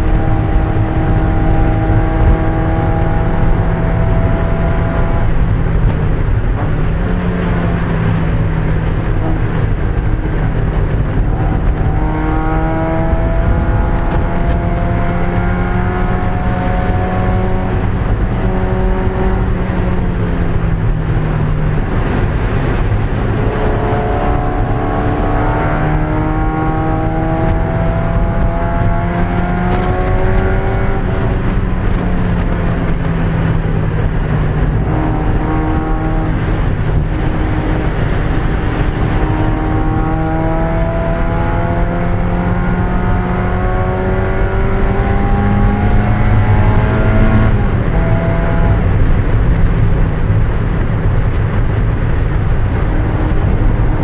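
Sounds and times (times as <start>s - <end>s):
car engine accelerating: 0.0s - 54.0s
low road noise drone: 0.0s - 54.0s.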